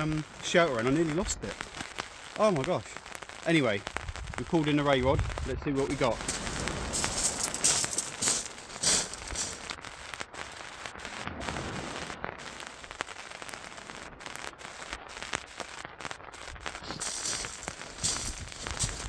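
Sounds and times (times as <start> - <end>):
heavy rain pattering: 0.0 - 19.0
raindrops crackling: 0.0 - 19.0.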